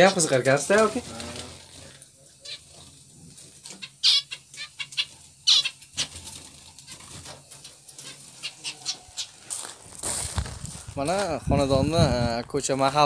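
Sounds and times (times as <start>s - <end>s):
wing flutters: 0.0s - 11.0s
cage birds chirping: 0.0s - 13.0s.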